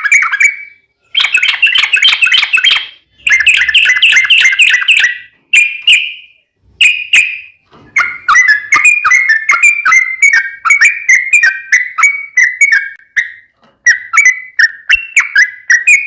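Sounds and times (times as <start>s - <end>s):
bird singing whistled phrases: 0.0s - 16.0s.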